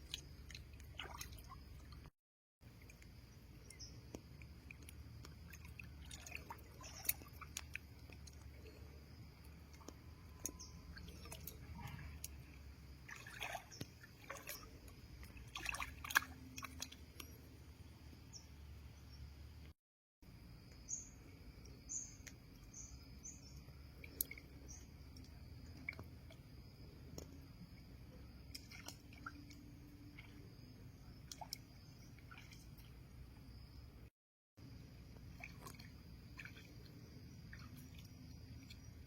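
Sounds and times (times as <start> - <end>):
water splashing and dripping: 0.0 - 17.7, 22.2 - 33.4, 34.9 - 39.0.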